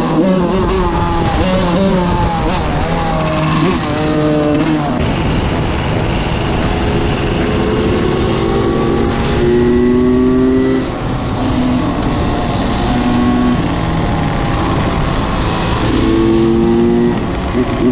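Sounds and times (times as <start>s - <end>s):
motorcycle engine revving: 0.0s - 17.9s
wind rush: 0.0s - 17.9s.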